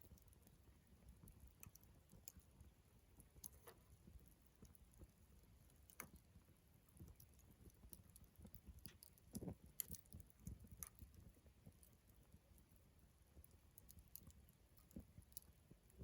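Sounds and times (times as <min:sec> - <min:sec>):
wood campfire crackling: 0:00.0 - 0:16.0.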